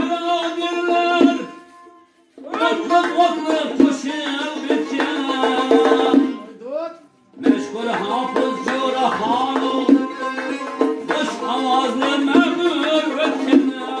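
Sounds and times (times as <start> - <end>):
lute plucked rhythmically: 0.0 - 6.6, 7.4 - 14.0
man singing: 0.0 - 14.0.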